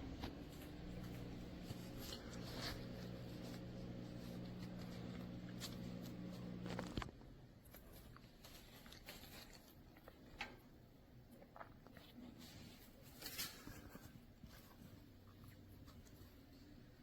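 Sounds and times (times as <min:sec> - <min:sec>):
faint rustles and clicks: 0:00.0 - 0:17.0
low electrical hum: 0:00.0 - 0:17.0.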